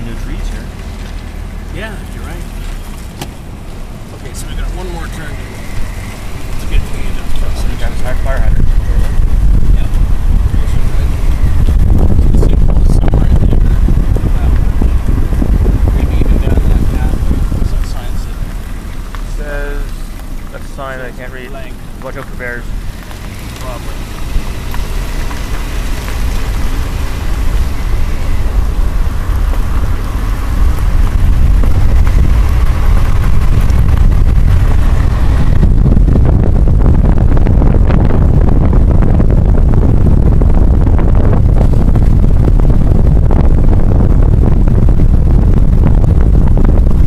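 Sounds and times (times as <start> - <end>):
road and wind noise: 0.0 - 47.0.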